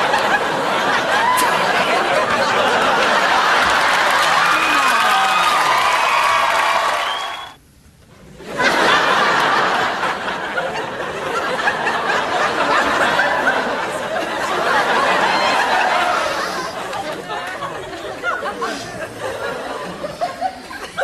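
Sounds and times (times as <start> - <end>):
studio audience laughter: 0.0 - 5.5, 8.4 - 21.0.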